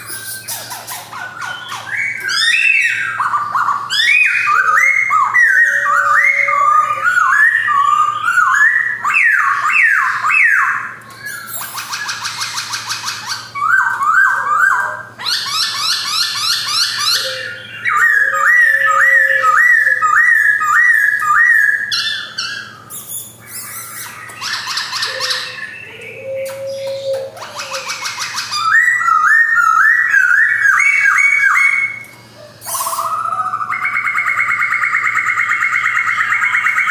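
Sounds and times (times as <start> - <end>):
bird whistling rising notes: 1.3 - 36.9.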